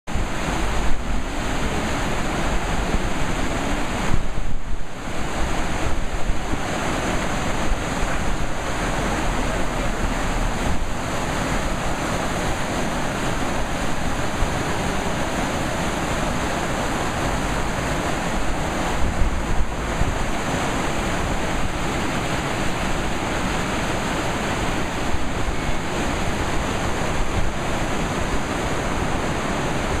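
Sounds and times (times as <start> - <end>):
river rushing over rapids: 0.1 - 30.0.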